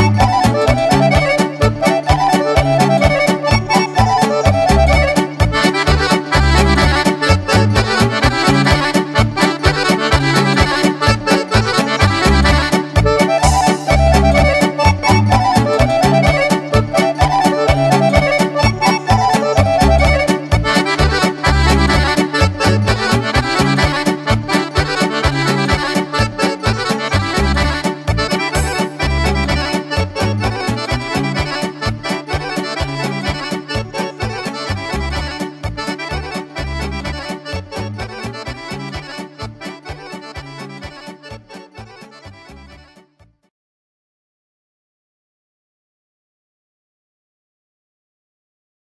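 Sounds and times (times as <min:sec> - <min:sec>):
pulsing bass accompaniment: 0:00.0 - 0:43.0
button accordion playing dance tune: 0:00.0 - 0:43.4.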